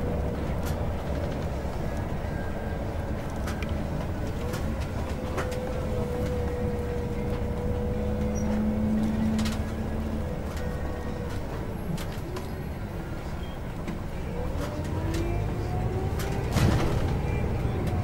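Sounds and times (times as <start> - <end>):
bus engine drone: 0.0 - 18.0.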